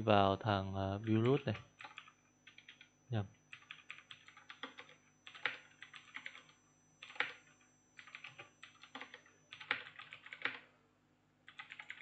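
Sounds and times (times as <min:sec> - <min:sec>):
computer keyboard typing: 0:01.0 - 0:02.9, 0:03.5 - 0:10.7, 0:11.5 - 0:12.0.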